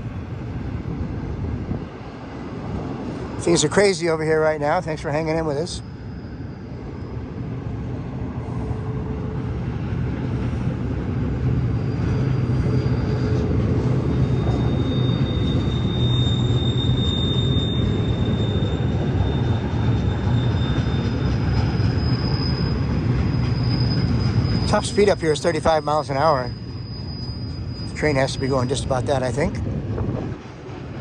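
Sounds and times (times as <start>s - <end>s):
train rumbling past: 0.0s - 31.0s
train wheels squealing: 1.8s - 31.0s.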